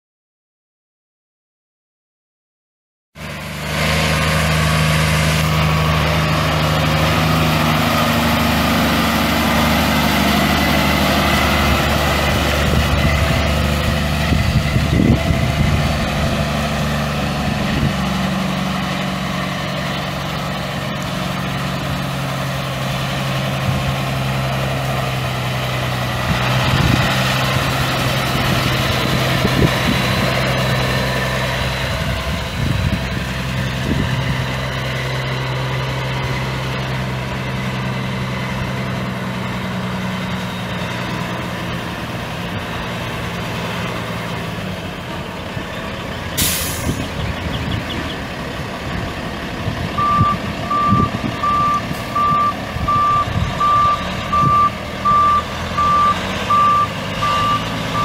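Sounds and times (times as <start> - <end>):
diesel truck engine idling: 3.2 - 58.0.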